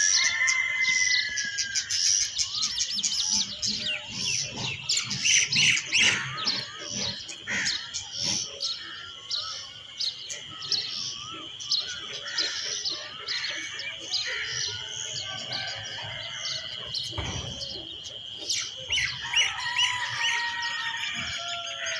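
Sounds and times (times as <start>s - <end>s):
bird repeated calls: 0.0s - 21.9s
birds chirping and calling: 0.0s - 21.9s.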